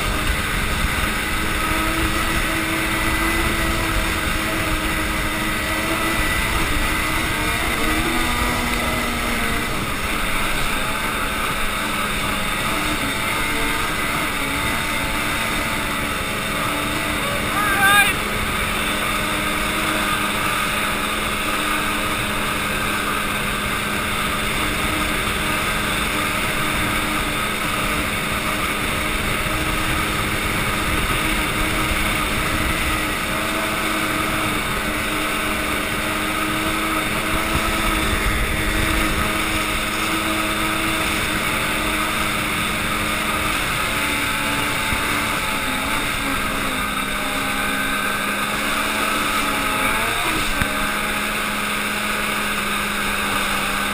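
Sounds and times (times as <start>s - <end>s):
snowmobile engine running: 0.0s - 53.9s.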